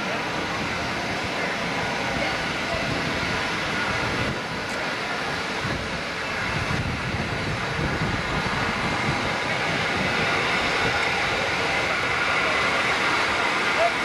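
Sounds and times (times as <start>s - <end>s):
steam locomotive hiss and rumble: 0.0s - 14.0s.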